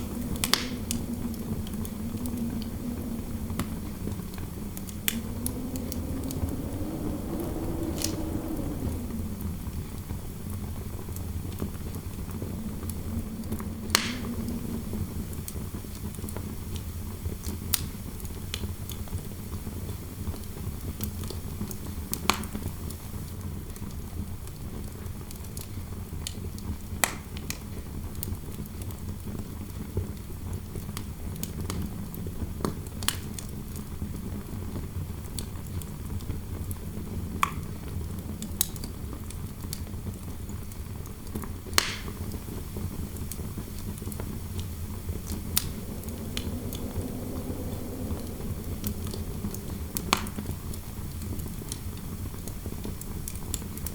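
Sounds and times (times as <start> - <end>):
fireplace fire crackling: 0.0 - 23.0, 31.2 - 53.9
indoor wind noise: 0.0 - 53.9.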